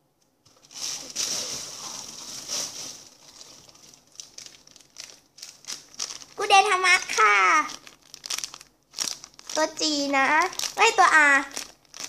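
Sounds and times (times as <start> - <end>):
paper and plastic crinkling: 0.5 - 12.0.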